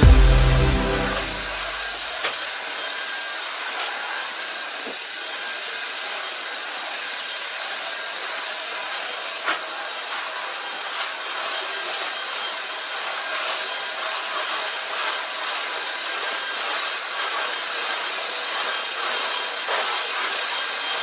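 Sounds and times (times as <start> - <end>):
cordless floor cleaner running: 0.0 - 21.0.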